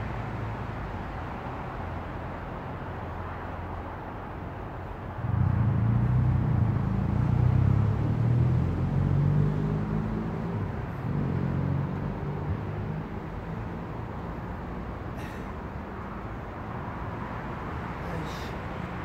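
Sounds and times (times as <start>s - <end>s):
passing vehicle engine rumble: 0.0s - 19.0s.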